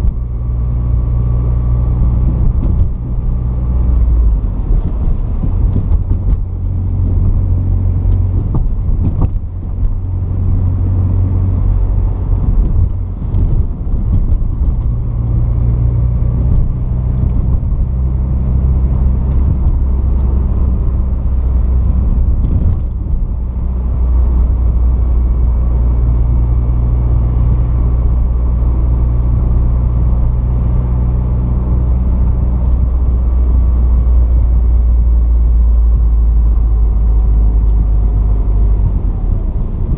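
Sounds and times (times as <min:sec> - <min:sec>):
car engine droning while driving: 0:00.0 - 0:39.9.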